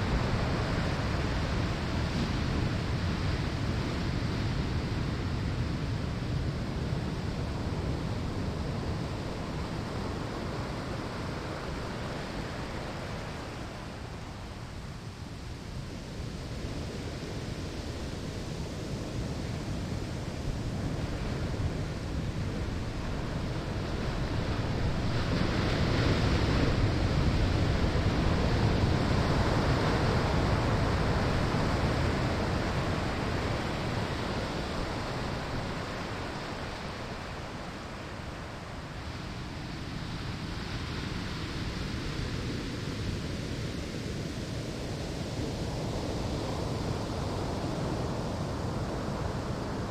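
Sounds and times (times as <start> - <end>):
ocean waves breaking on shore: 0.0 - 49.9.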